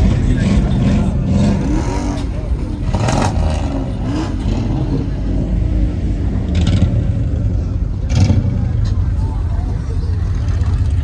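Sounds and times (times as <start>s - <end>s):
car engine and exhaust rumble: 0.0s - 11.0s
crowd voices: 0.0s - 11.0s.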